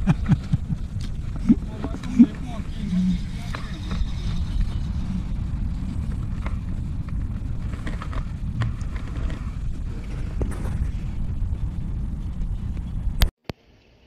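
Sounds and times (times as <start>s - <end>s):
wind buffeting microphone: 0.0s - 13.3s.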